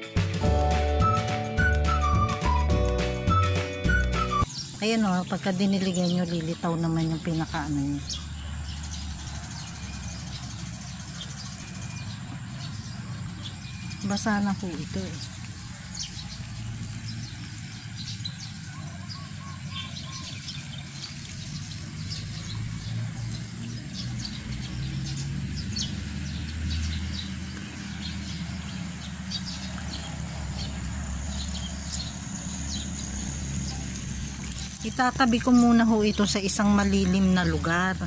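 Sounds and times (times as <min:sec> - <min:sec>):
small birds chirping: 0:04.4 - 0:38.0.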